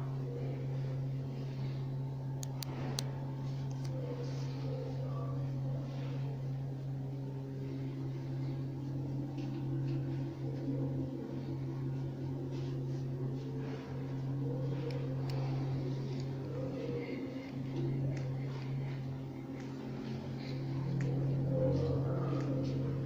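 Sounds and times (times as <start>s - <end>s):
faint wavering tones: 0.0s - 23.0s
steady low hum: 0.0s - 23.0s.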